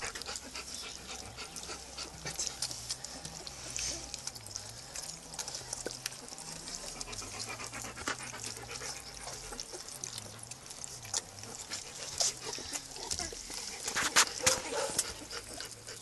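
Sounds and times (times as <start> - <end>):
puppies lapping food: 0.0 - 16.0.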